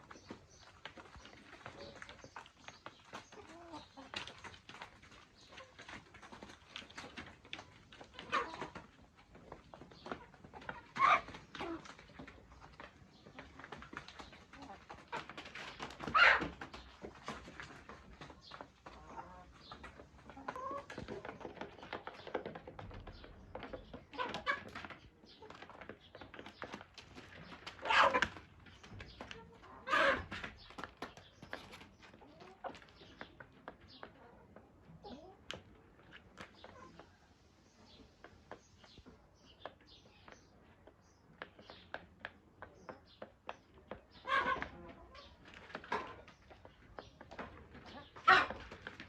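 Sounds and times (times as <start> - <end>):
chickens clucking: 0.0 - 49.0
chickens pecking taps: 0.0 - 49.0.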